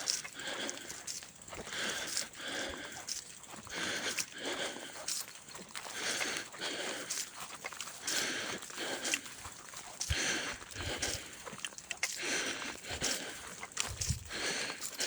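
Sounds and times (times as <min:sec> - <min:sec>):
footsteps scuffing on path: 0:00.0 - 0:15.0.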